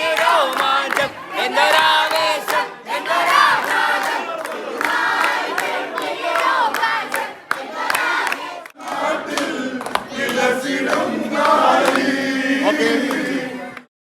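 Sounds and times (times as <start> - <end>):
crowd shouting and singing: 0.0 - 13.9
sharp claps: 0.1 - 12.1.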